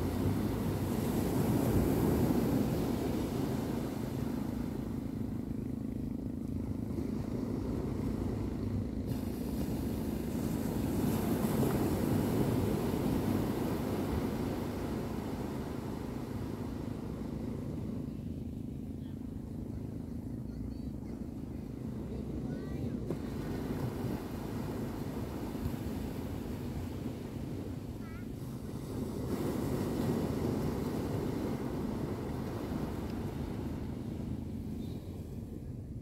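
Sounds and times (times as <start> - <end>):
low hum: 0.0 - 36.0
small waves washing onto beach: 0.0 - 36.0.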